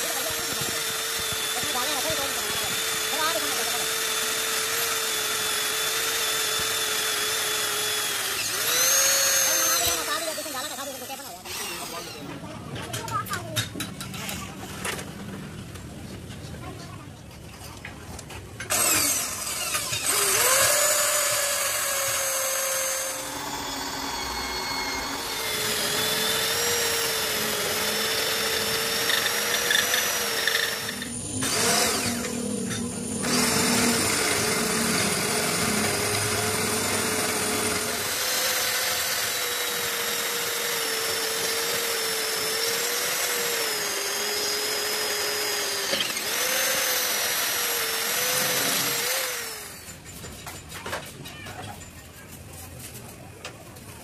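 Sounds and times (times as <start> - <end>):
electric drill whining through metal: 0.0 - 14.3, 18.6 - 50.4.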